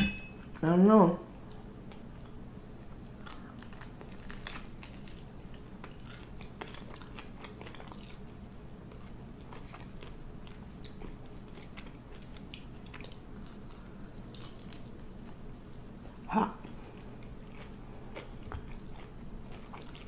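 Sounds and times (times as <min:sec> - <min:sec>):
low steady hum: 0:00.0 - 0:20.0
chewing and crunching: 0:01.3 - 0:20.0.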